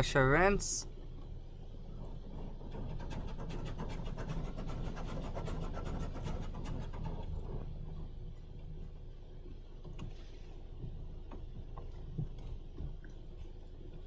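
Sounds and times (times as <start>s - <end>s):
carwash water spray rumble: 0.0s - 14.0s.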